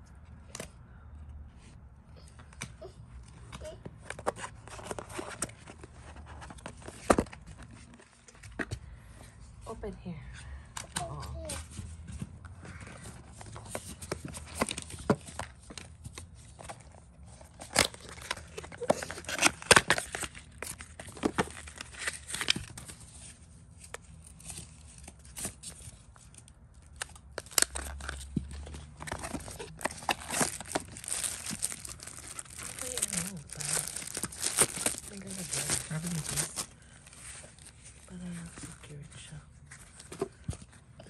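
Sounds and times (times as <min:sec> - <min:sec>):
cardboard and plastic rustling: 0:01.6 - 0:09.8, 0:10.4 - 0:41.0.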